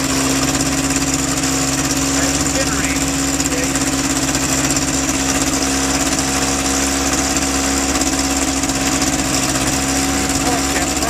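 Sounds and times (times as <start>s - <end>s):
light aircraft engine running: 0.0s - 11.0s.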